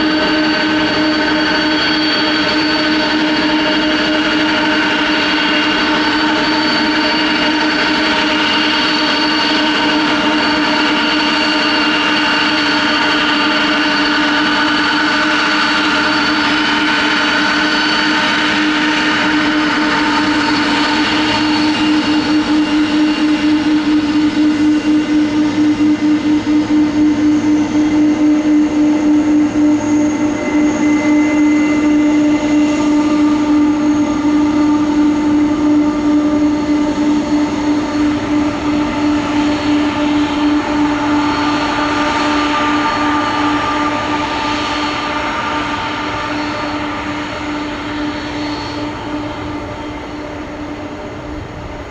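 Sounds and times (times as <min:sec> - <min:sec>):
jet engines roaring at take-off: 0:00.0 - 0:51.9.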